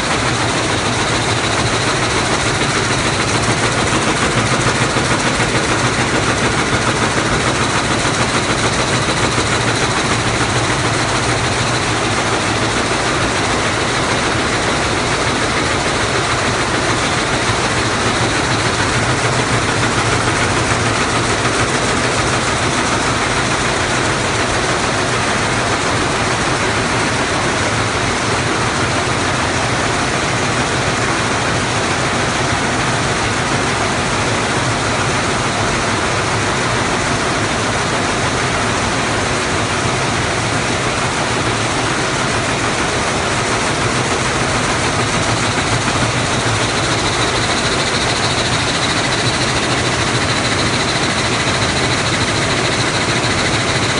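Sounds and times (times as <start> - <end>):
weaving loom running: 0.0 - 53.9.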